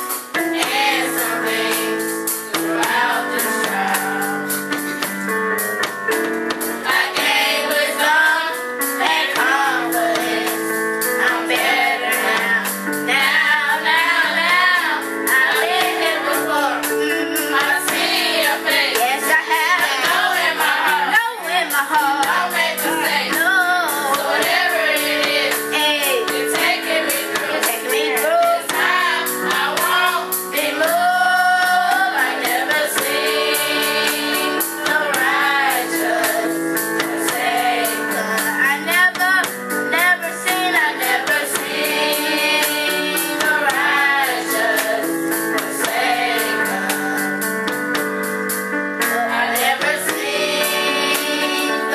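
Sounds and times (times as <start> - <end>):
steady beat: 0.0 - 39.7, 40.5 - 48.3
group singing gospel song: 0.0 - 48.0, 48.9 - 51.9.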